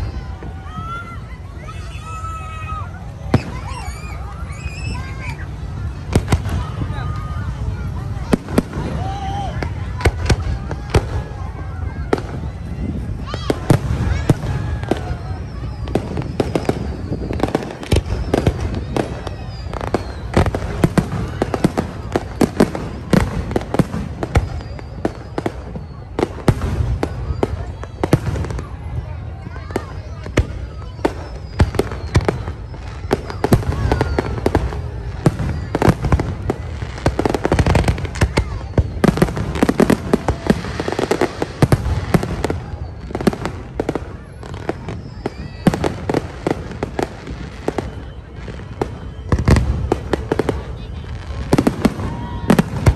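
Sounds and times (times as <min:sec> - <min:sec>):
continuous low rumble: 0:00.0 - 0:52.9
fireworks bangs and cracks: 0:00.0 - 0:52.9.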